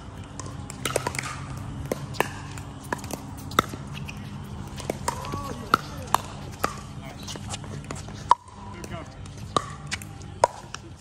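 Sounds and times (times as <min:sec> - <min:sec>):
low steady hum: 0:00.0 - 0:11.0
paddles hitting plastic ball: 0:00.2 - 0:11.0.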